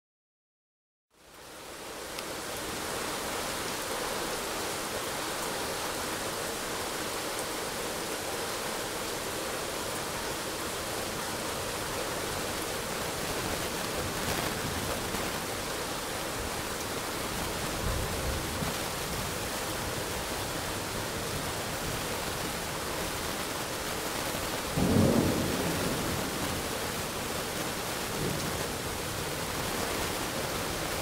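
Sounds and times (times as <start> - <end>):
heavy rain falling: 1.2 - 31.0.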